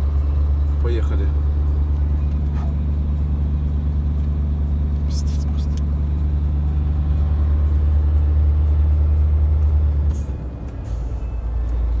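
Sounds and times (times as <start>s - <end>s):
diesel truck engine: 0.0s - 12.0s
road noise inside cab: 0.0s - 12.0s.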